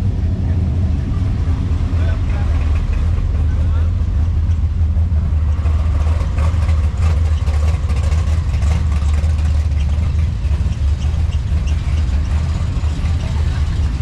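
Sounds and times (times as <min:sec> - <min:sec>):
car engines idling: 0:00.0 - 0:14.0.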